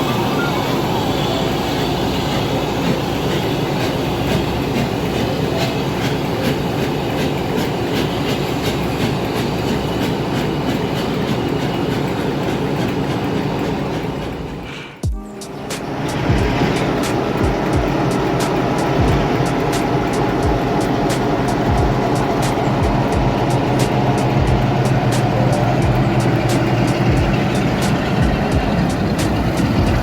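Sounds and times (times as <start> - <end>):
train rumbling along track: 0.0 - 30.0
wheels clicking over rail joints: 0.0 - 30.0.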